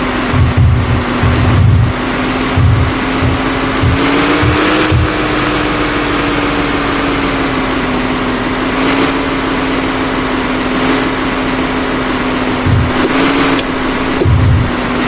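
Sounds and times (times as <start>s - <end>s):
diesel machinery engine running: 0.0s - 15.0s
engine whine: 0.0s - 15.0s.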